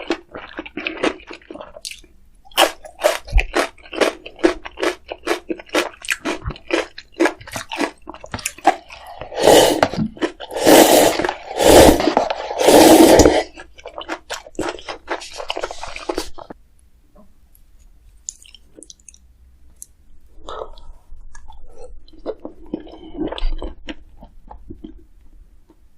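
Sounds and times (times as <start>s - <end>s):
close chewing of food: 0.0s - 16.6s, 20.3s - 25.8s.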